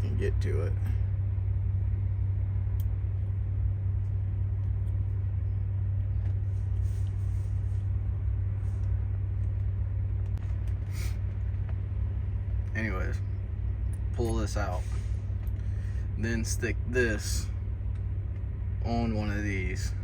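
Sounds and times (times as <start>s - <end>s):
low mechanical drone: 0.0s - 20.0s.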